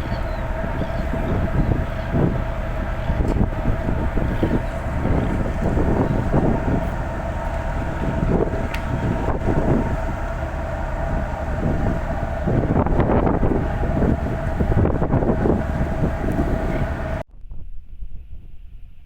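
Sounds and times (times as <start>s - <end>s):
ferry engines droning: 0.0s - 17.2s
gusting wind buffeting microphone: 0.0s - 17.8s.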